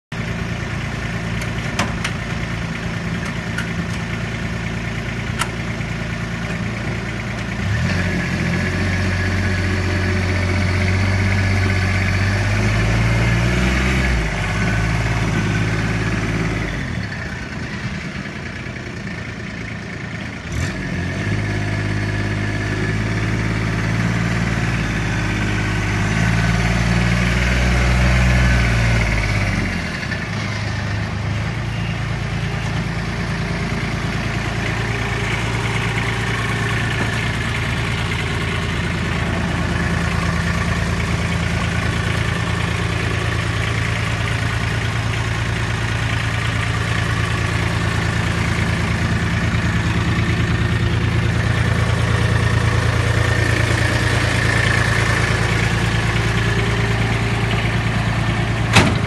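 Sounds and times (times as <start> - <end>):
diesel engine idling and driving: 0.0 - 59.0.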